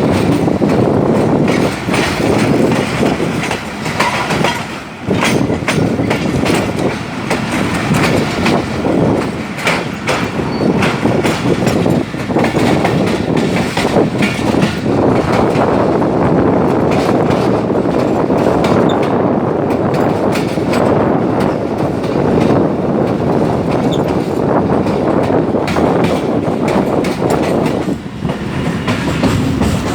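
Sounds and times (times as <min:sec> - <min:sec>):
clacks over rail joints: 0:00.0 - 0:29.9
train wheels rushing on rails: 0:00.0 - 0:29.9.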